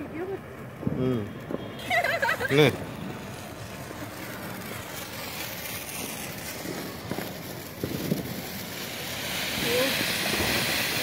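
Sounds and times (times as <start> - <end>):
ground firework hissing: 0.0 - 11.0.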